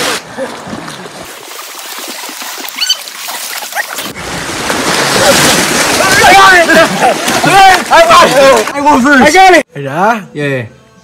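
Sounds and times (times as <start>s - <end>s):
river water splashing and churning: 0.0s - 9.2s.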